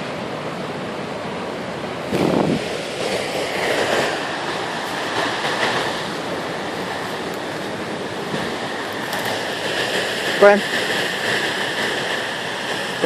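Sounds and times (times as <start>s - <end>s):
wind blowing across microphone: 1.8s - 13.0s.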